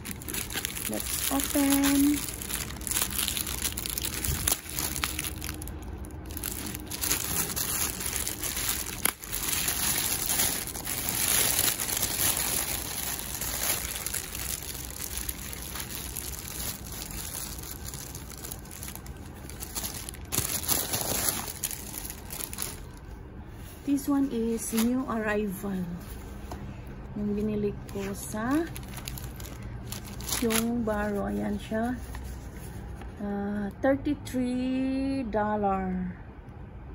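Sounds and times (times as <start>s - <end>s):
plastic wrapping crinkling: 0.0s - 26.6s, 27.3s - 33.1s.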